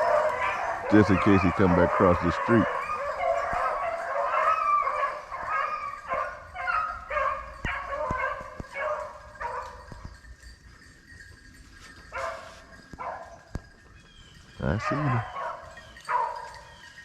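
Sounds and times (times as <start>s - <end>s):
hounds baying and barking: 0.0s - 17.0s.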